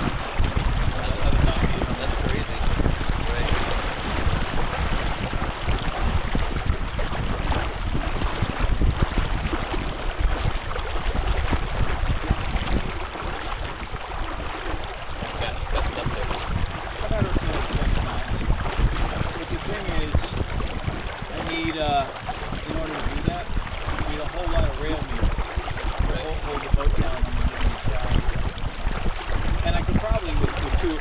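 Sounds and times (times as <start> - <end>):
water rushing along hull: 0.0 - 31.0
wind buffeting microphone: 0.0 - 31.0.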